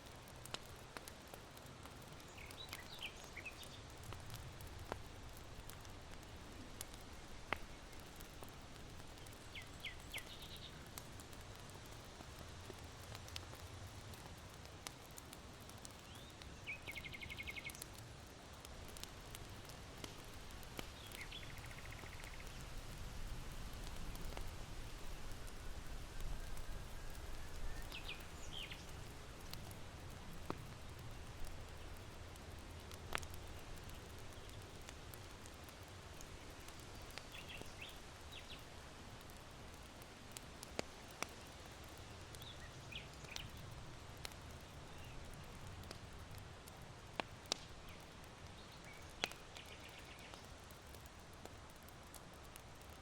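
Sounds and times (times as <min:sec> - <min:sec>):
charcoal fire crackling: 0:00.0 - 0:53.0
small birds chirping: 0:02.0 - 0:11.7, 0:12.7 - 0:23.0, 0:23.9 - 0:29.8, 0:30.4 - 0:39.3, 0:40.8 - 0:46.3, 0:47.2 - 0:51.0.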